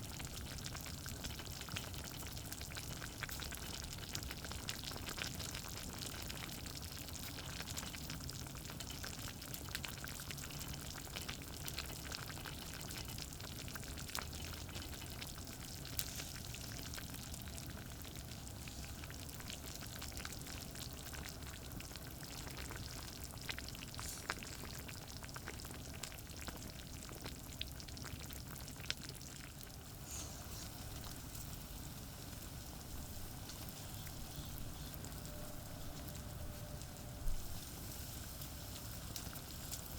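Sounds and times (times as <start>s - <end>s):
campfire crackling: 0.0s - 39.9s
fire popping: 0.0s - 39.9s
food sizzling: 0.0s - 39.9s.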